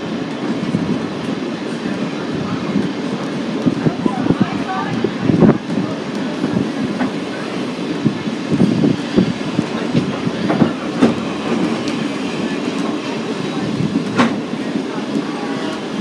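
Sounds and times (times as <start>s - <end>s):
train car rumbling: 0.0s - 16.0s
wheels clacking over rail joints: 0.0s - 16.0s.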